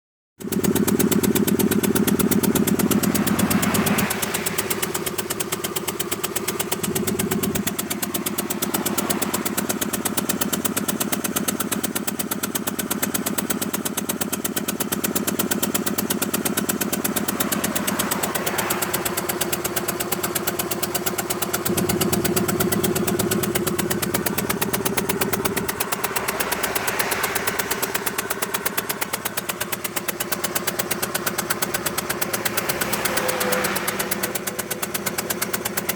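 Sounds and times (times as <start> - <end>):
car engine running with pulsing: 0.4 - 35.9.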